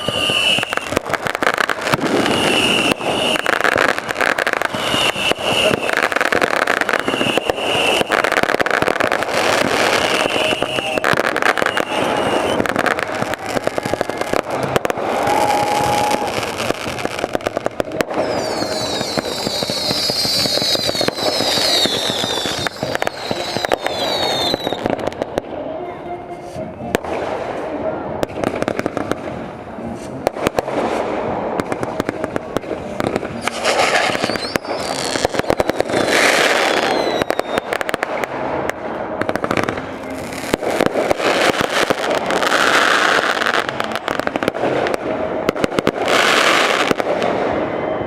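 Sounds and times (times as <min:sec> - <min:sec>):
fireworks bangs and crackling: 0:00.0 - 0:48.0
shrill whistling fireworks: 0:00.0 - 0:48.0.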